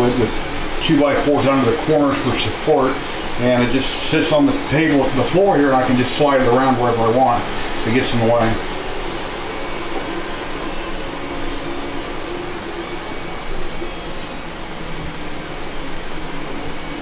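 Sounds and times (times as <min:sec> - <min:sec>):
machinery whirring hum: 0:00.0 - 0:17.0.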